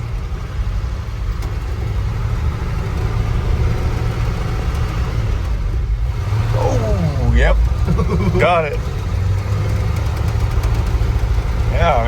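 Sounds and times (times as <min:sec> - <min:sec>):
truck engine pulling away: 0:00.0 - 0:12.0.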